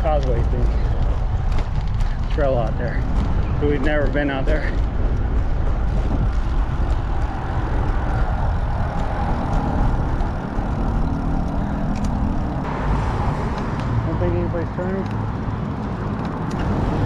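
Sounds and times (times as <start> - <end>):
wind on microphone: 0.0 - 14.1
road traffic passing: 0.0 - 17.0.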